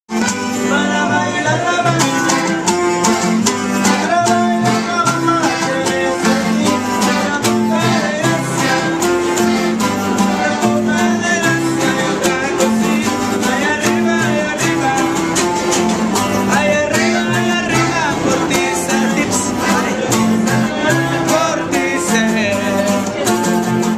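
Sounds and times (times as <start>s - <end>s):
acoustic guitars strumming: 0.1s - 23.9s
low bass notes: 0.2s - 23.9s.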